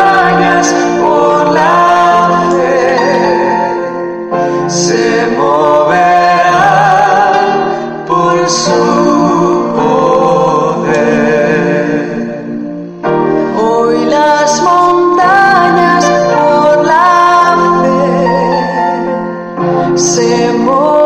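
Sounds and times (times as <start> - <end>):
instrumental accompaniment: 0.0 - 21.0
person singing with vibrato: 0.0 - 21.0.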